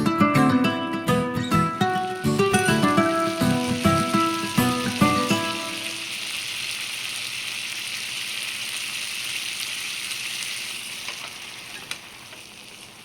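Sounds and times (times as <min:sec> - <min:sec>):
food sizzling in a hot pan: 0:01.1 - 0:13.0.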